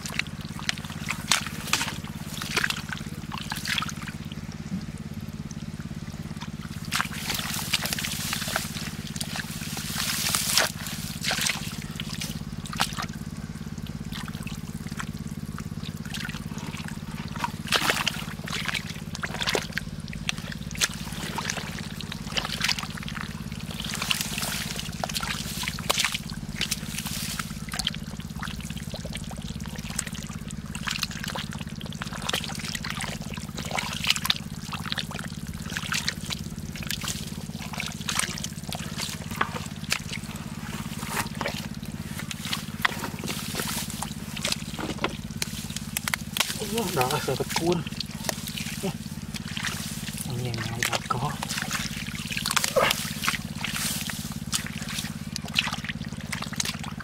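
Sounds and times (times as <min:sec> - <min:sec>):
steady low hum: 0:00.0 - 0:57.0
water splashing and sloshing: 0:00.0 - 0:57.0.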